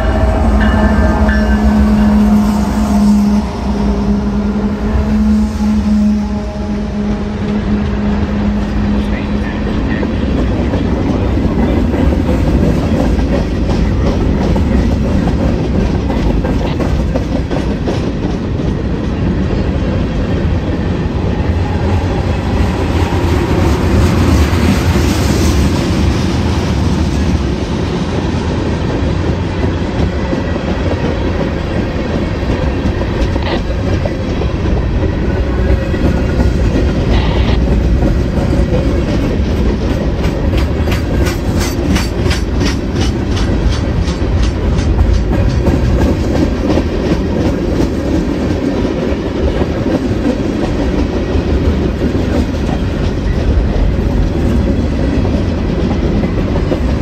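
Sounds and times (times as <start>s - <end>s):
freight train rolling past: 0.0s - 57.0s
clickety-clack over rail joints: 7.4s - 57.0s.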